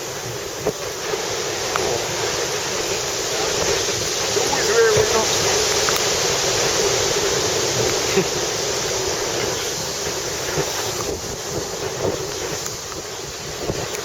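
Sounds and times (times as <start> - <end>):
storm waves surging: 0.0 - 14.0
wind buffeting microphone: 0.0 - 14.0.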